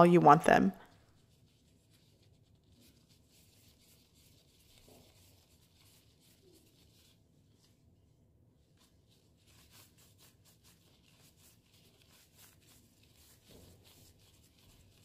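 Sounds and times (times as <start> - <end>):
gloved hands squishing meat: 1.1 - 15.0.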